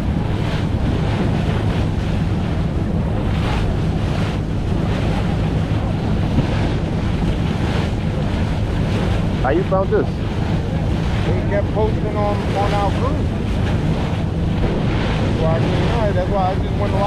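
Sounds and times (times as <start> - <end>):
water splashing against hull: 0.0 - 17.0
wind buffeting microphone: 0.0 - 17.0.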